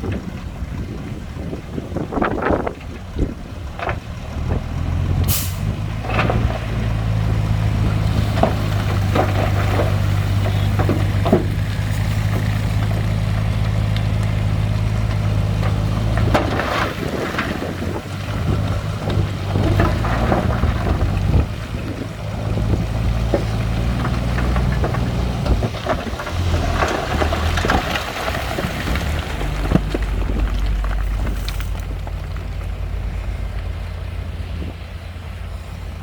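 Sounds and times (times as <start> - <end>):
diesel machinery running: 0.0 - 36.0.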